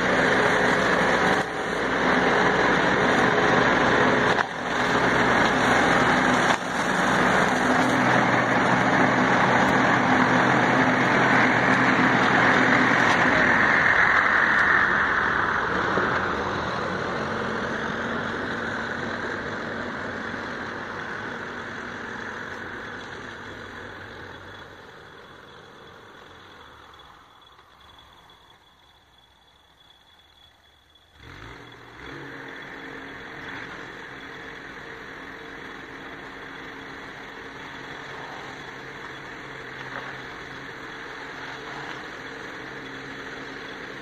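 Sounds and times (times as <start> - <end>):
tractor diesel engine hum: 0.0 - 44.0.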